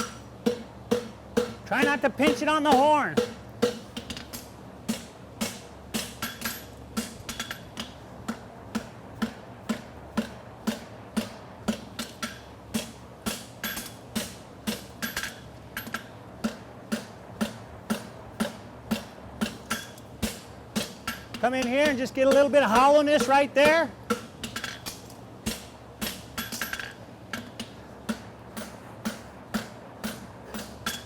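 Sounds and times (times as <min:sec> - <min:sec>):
hammer striking steel on anvil: 0:00.0 - 0:31.0.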